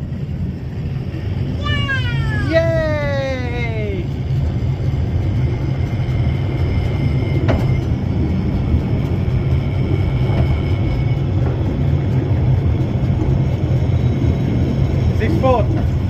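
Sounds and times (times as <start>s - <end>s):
cable car rumbling on rails: 0.0s - 16.0s.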